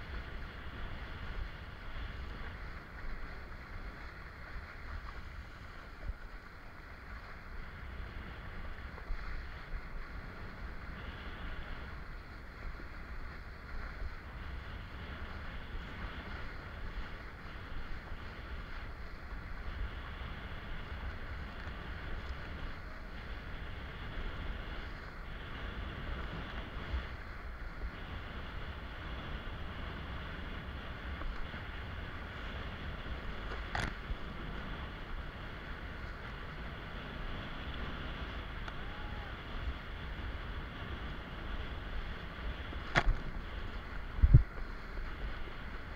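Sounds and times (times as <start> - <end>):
water rushing and splashing: 0.0 - 45.9
wind buffeting microphone: 0.0 - 45.9.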